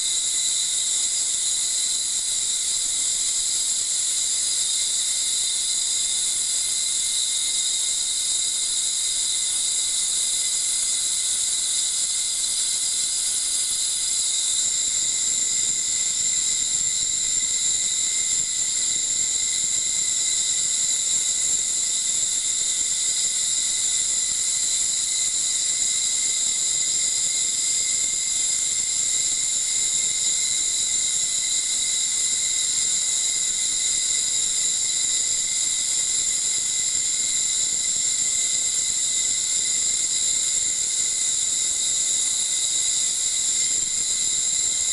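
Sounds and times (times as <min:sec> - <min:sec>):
ultrasound emitter hiss and whine: 0:00.0 - 0:44.9.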